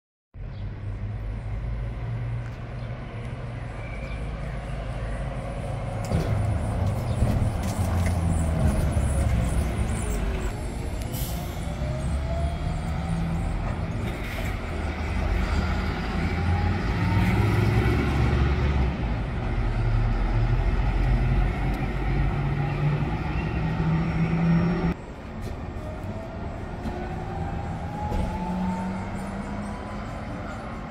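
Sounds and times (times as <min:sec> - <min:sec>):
bus engine drone and whine: 0:00.4 - 0:30.9
cars passing: 0:00.4 - 0:30.9.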